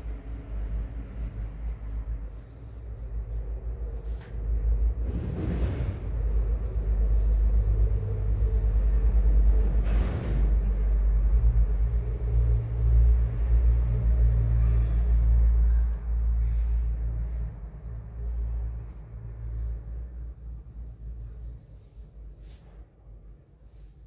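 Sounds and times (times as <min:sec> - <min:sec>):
loud uneven low rumble: 0:00.0 - 0:24.0.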